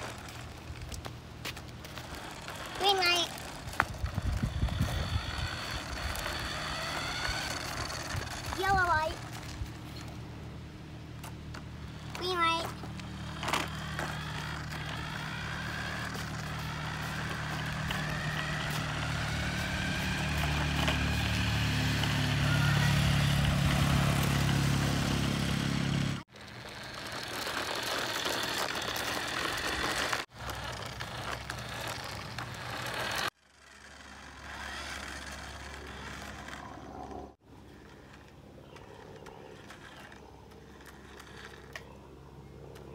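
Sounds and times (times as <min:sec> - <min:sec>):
small electric motor whining: 0:00.0 - 0:10.3, 0:11.0 - 0:42.1.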